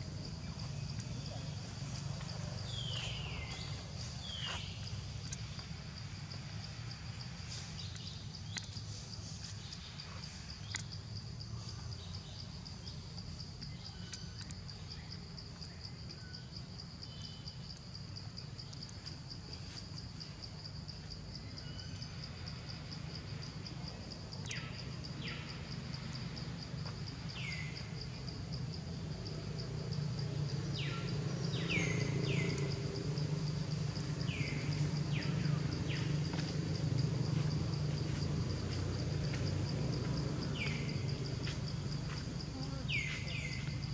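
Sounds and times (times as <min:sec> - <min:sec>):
insect trill: 0:00.0 - 0:43.9.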